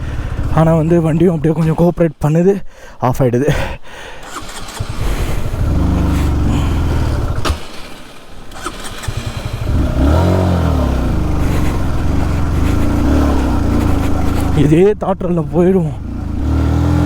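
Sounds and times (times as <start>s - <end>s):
motorcycle engine running: 0.0s - 1.6s, 4.3s - 17.0s.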